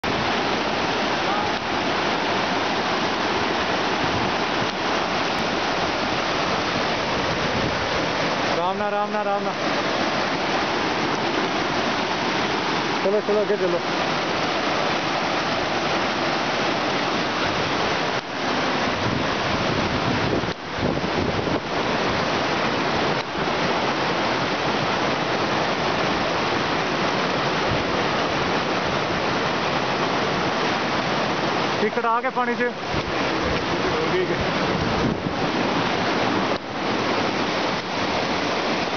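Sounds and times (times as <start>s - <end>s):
river rushing through rapids: 0.0s - 38.9s.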